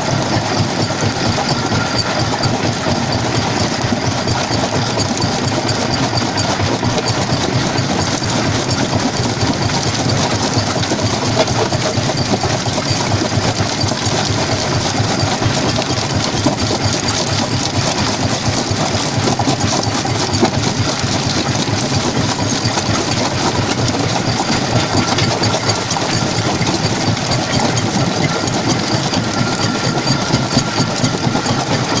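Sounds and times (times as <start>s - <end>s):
jaw crusher machine drone: 0.0s - 32.0s.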